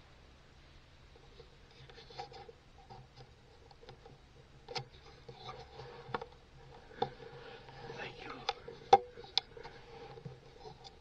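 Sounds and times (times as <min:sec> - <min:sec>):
handling rustle and clicks: 0:01.2 - 0:11.0.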